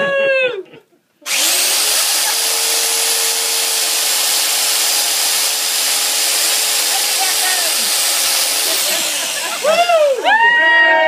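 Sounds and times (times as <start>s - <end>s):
chainsaw running: 1.3s - 10.3s.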